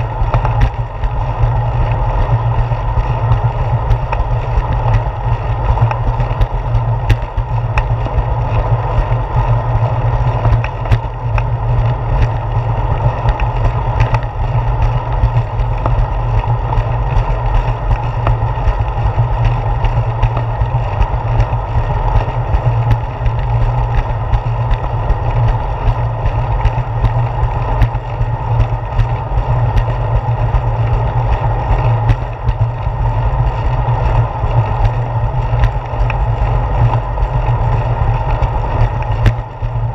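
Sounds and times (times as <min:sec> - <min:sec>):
bicycle rumble on concrete: 0:00.0 - 0:39.9
wind on camera: 0:00.0 - 0:39.9.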